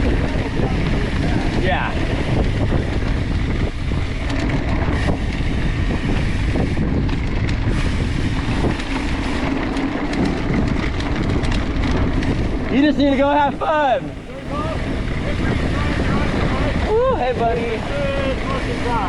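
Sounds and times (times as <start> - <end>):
bike knocks and rattles: 0.0 - 19.0
bike tyres on dirt: 0.0 - 19.0
wind buffeting microphone: 0.0 - 19.0.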